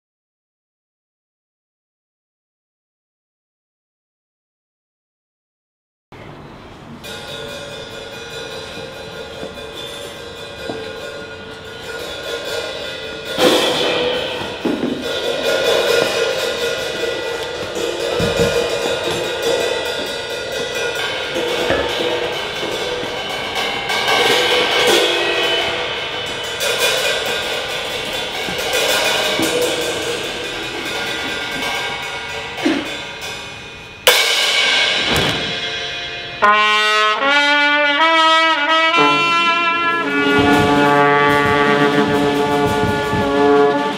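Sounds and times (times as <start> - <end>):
cymbals and drums music: 6.9 - 43.9
loud cymbal crashes: 6.9 - 43.9.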